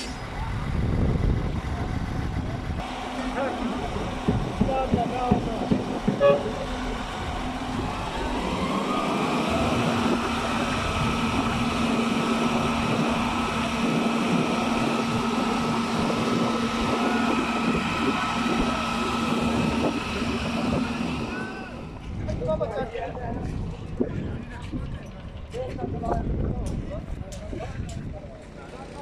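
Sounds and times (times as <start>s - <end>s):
heavy machinery engine whining: 0.0s - 26.6s.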